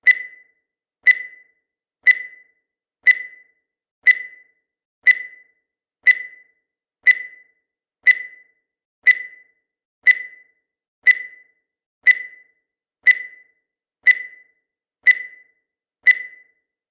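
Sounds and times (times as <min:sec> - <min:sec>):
high-pitched timer beeps: 0:00.0 - 0:16.8.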